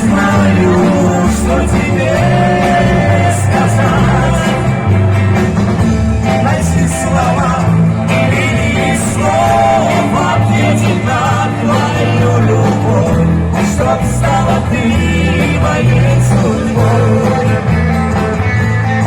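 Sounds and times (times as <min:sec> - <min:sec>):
live pop rock band: 0:00.0 - 0:19.0
steady bass line: 0:00.0 - 0:19.0.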